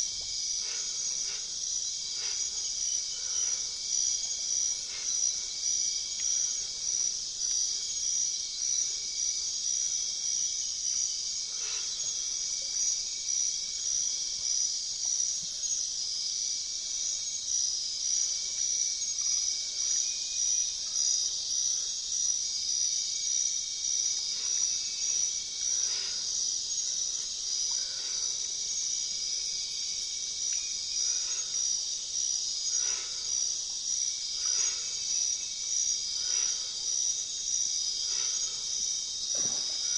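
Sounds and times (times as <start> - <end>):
insects buzzing trill: 0.0 - 14.6, 19.0 - 39.9.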